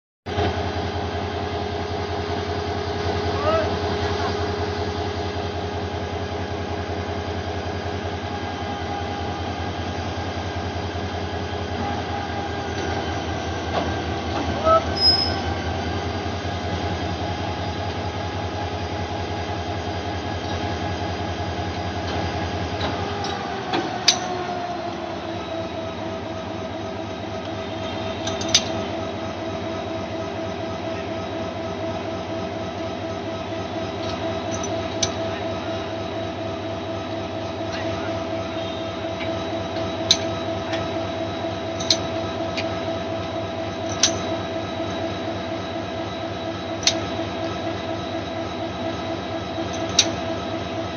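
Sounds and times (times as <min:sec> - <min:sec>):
rail noise: 0:00.3 - 0:50.9
train mechanical drone: 0:00.3 - 0:50.9
whine: 0:00.3 - 0:50.9.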